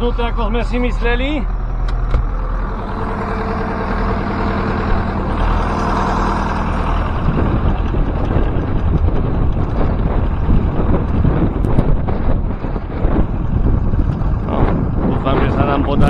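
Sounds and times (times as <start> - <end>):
tractor diesel engine running: 0.0 - 16.0
wind buffeting microphone: 0.0 - 16.0.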